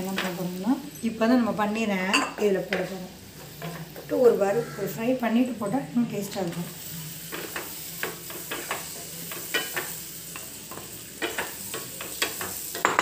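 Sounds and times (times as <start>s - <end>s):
paneer sizzling in a pan: 0.0s - 13.0s.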